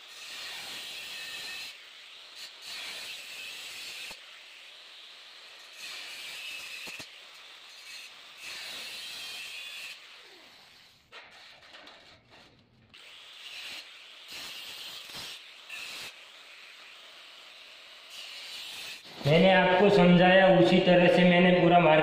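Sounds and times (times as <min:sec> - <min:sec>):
angle grinder cutting steel: 0:00.0 - 0:12.0, 0:12.9 - 0:20.1.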